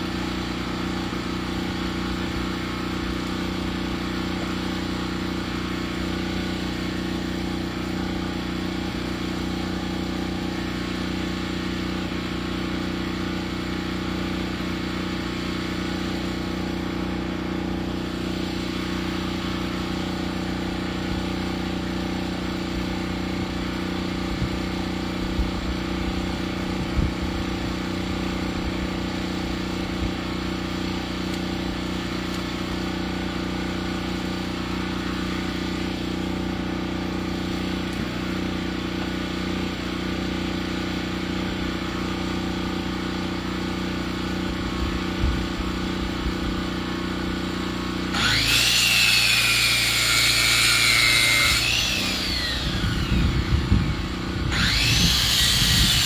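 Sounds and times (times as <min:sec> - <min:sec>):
engine running steadily: 0:00.0 - 0:48.5, 0:51.4 - 0:56.0.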